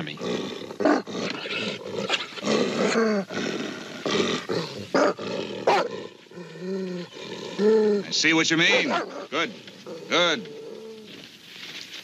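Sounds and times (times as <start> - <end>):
dog snarling and barking: 0.0 - 10.9.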